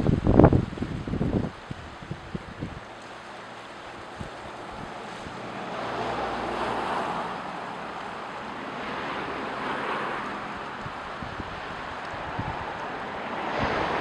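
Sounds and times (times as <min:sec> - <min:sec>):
waves breaking and washing in: 0:00.0 - 0:14.0
wind on microphone: 0:00.0 - 0:14.0.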